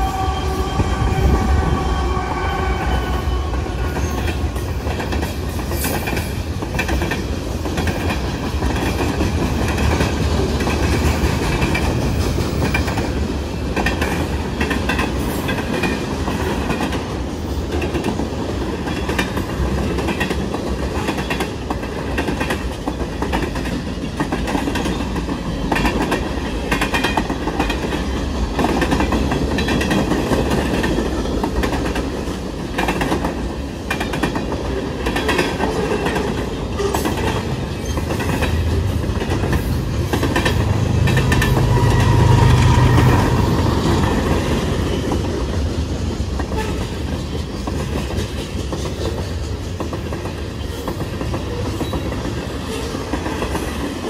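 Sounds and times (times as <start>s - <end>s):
train rumble: 0.0s - 54.0s
train wheels clicking over joints: 3.6s - 54.0s.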